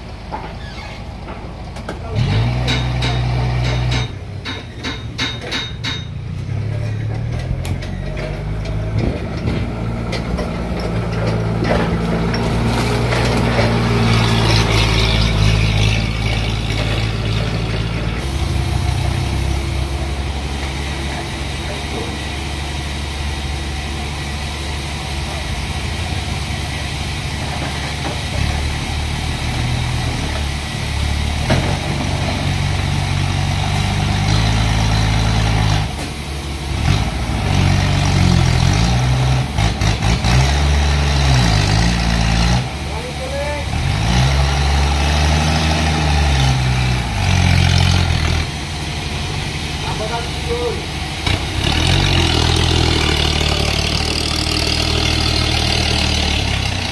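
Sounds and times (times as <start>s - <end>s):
forklift engine running: 0.0s - 56.9s.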